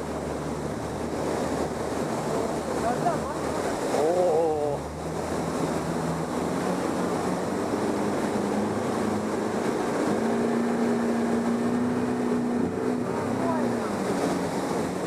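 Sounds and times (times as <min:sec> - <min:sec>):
boat engine running: 0:00.0 - 0:15.0
rushing water: 0:00.0 - 0:15.0.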